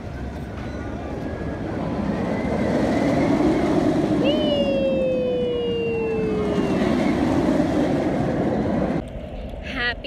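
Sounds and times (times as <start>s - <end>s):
roller coaster rushing rumble: 0.0s - 10.0s
falling whine: 0.9s - 9.3s.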